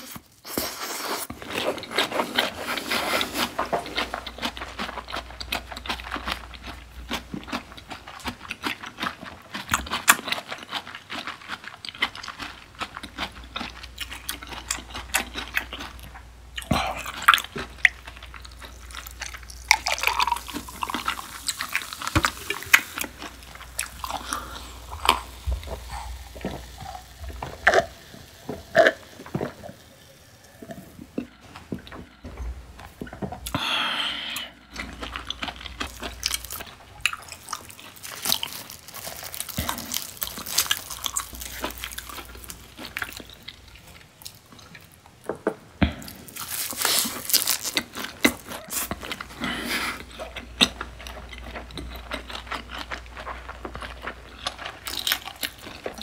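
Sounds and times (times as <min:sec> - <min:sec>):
crunching and wet chewing: 0:00.0 - 0:32.2, 0:34.4 - 0:45.2, 0:45.8 - 0:56.0.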